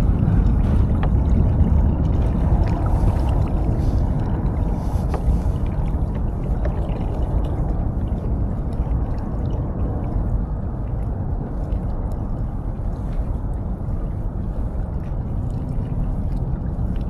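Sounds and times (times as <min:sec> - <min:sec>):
water sloshing against hull: 0:00.0 - 0:17.0.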